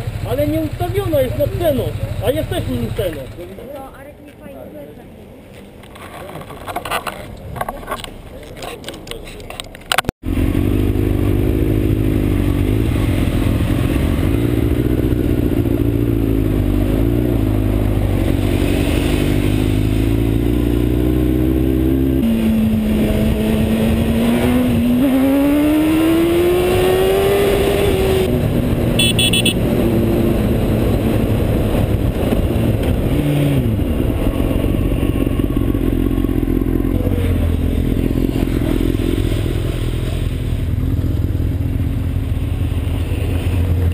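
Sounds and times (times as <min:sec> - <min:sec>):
motorcycle engine running: 0:00.0 - 0:03.6, 0:10.2 - 0:25.2, 0:26.5 - 0:43.9
wind and road noise: 0:00.0 - 0:43.9.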